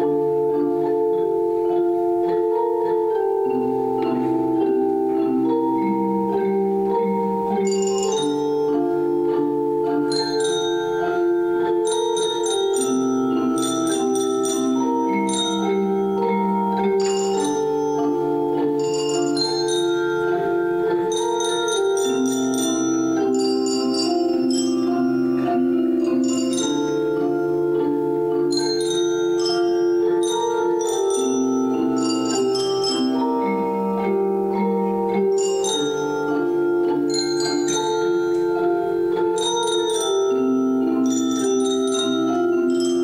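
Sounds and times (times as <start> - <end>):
high ringing struck notes: 0.0 - 43.0
xylophones playing a tune: 0.0 - 43.0.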